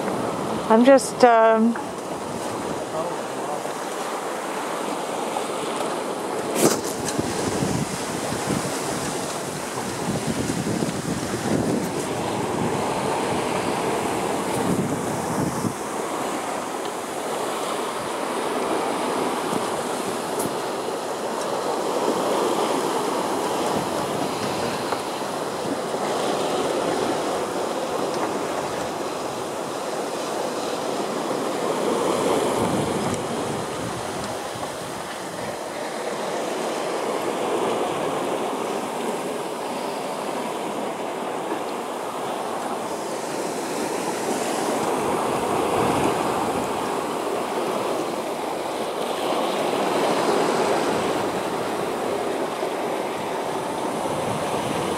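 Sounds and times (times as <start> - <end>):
water rushing along boat hull: 0.0 - 54.9
wind: 0.0 - 54.9.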